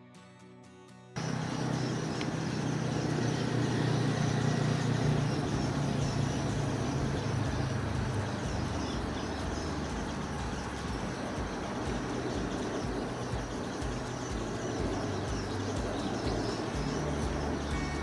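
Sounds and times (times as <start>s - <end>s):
distant engine droning: 1.2s - 18.0s
outdoor background hiss: 1.2s - 18.0s.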